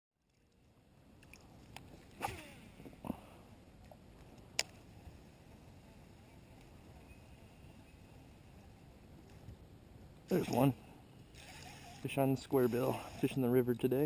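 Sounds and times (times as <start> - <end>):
faint steady background: 0.2 - 14.0.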